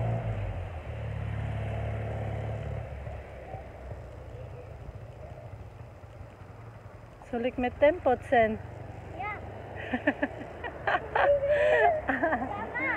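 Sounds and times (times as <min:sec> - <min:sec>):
vehicle engine rumble: 0:00.0 - 0:12.9.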